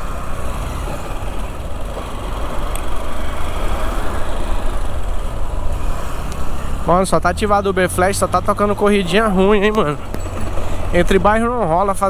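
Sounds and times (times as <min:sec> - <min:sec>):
motorcycle engine: 0:00.0 - 0:11.9.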